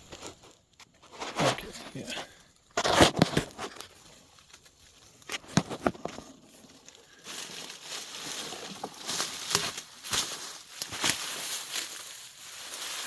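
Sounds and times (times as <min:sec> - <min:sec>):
brush and wood debris rustling: 0:00.0 - 0:13.0.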